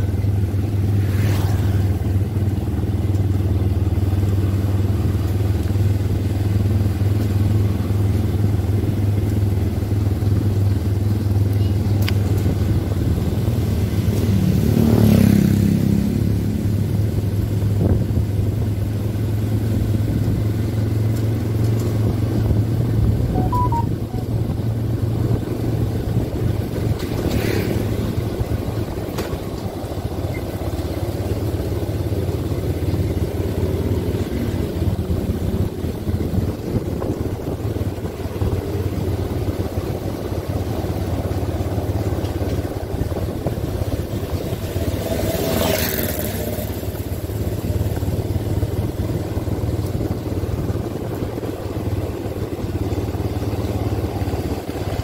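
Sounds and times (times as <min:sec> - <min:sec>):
quad bike engines running: 0:00.0 - 0:55.0.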